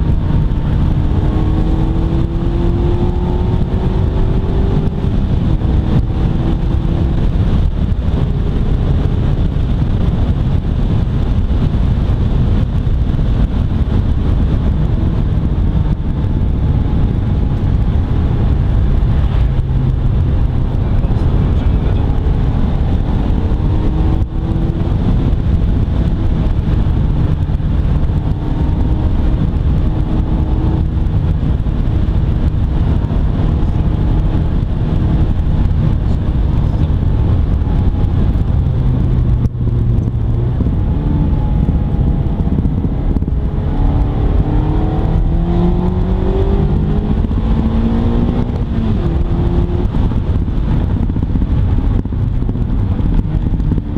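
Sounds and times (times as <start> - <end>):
car engine revving: 0.0 - 53.9
wind and road rush: 0.0 - 53.9.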